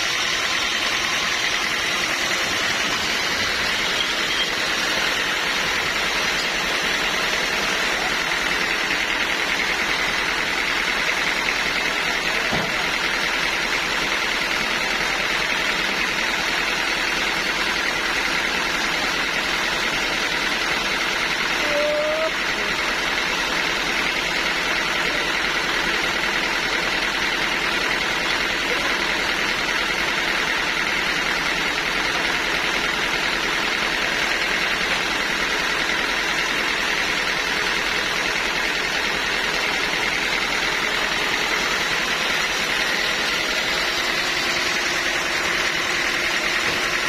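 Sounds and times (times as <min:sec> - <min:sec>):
sawmill machinery running: 0:00.0 - 0:47.0.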